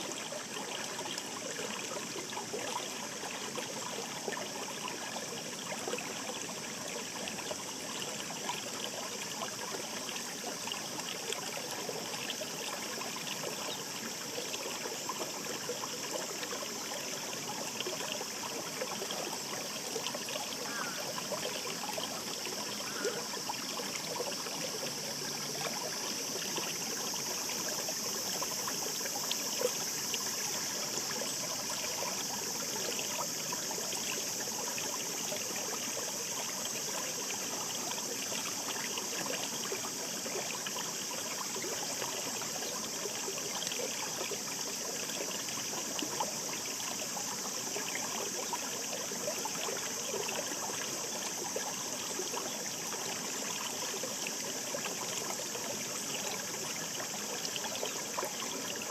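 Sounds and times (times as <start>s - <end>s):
stream babbling over rocks: 0.0s - 58.9s.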